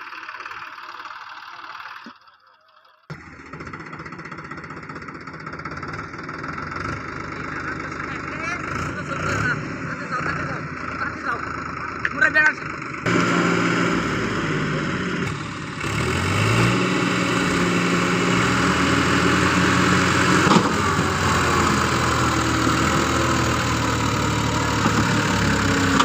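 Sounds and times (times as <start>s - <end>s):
power tiller engine running: 0.0s - 26.0s.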